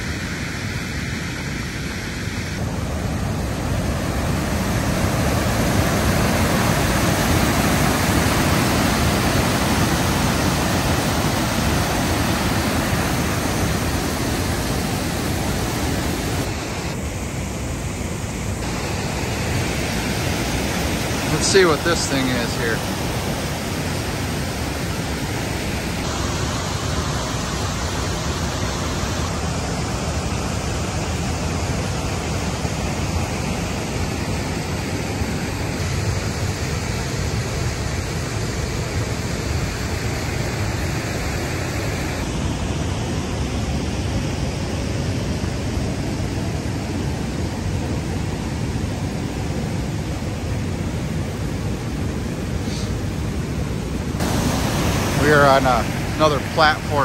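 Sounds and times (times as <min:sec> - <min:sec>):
waterfall rushing: 0:02.5 - 0:43.4, 0:45.9 - 0:57.0.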